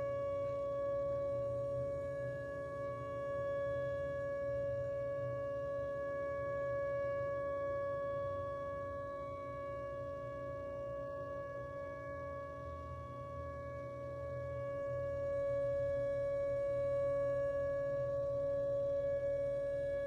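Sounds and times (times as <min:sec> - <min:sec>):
outdoor warning siren steady tone: 0:00.0 - 0:20.0.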